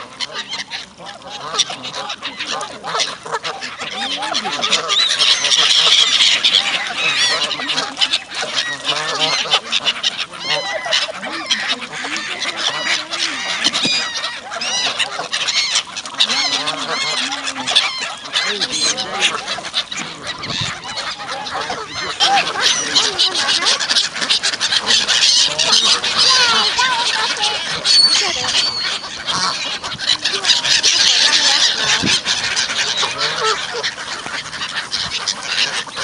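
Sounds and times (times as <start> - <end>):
geese honking: 0.0 - 36.0
gulls calling: 0.0 - 36.0.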